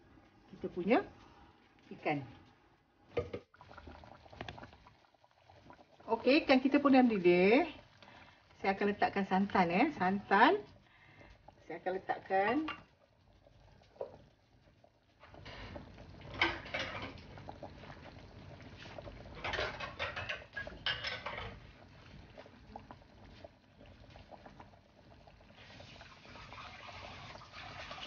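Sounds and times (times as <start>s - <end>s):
curry bubbling and popping: 0.0s - 28.0s.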